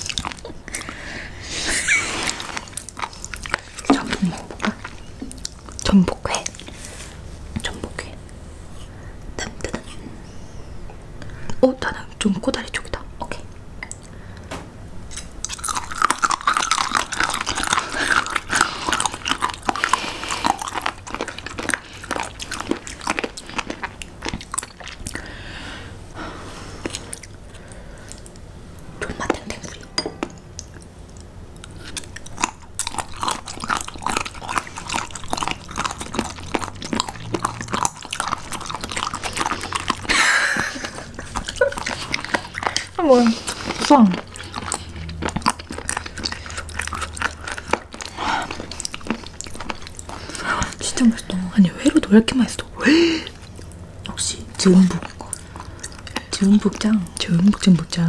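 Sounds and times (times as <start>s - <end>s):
crunching and wet chewing: 0.0s - 8.9s, 15.1s - 25.6s, 26.6s - 58.0s.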